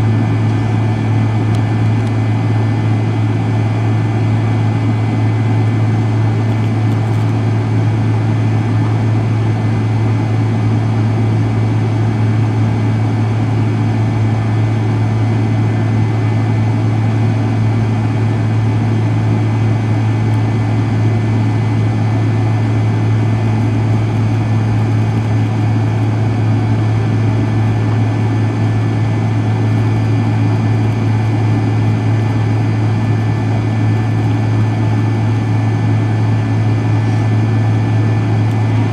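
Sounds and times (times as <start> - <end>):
jet engines droning: 0.0 - 38.9.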